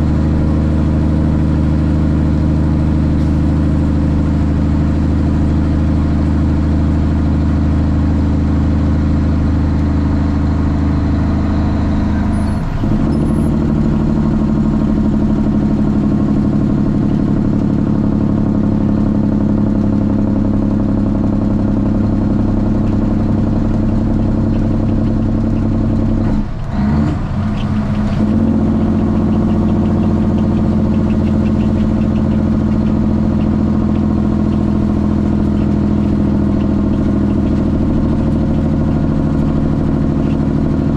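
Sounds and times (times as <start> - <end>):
diesel truck engine droning: 0.0 - 40.9.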